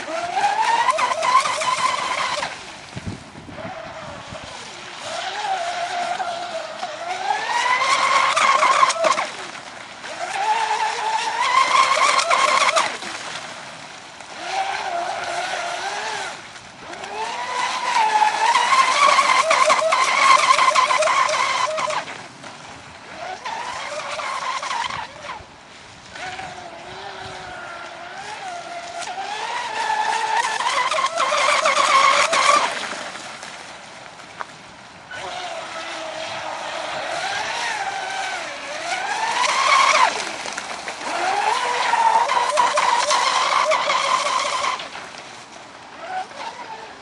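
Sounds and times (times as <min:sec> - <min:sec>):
model boat motor whining: 0:00.0 - 0:33.4, 0:34.9 - 0:47.0.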